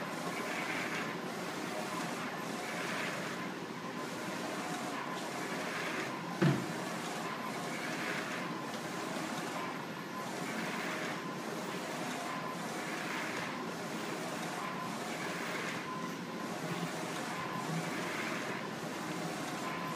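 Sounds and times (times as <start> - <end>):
printer mechanical whir: 0.0 - 19.9.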